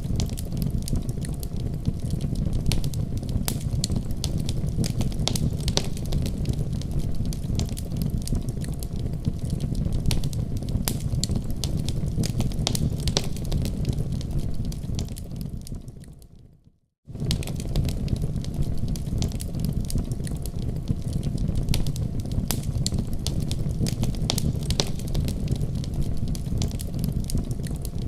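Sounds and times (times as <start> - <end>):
wood fire crackling: 0.0 - 16.4, 17.1 - 28.0.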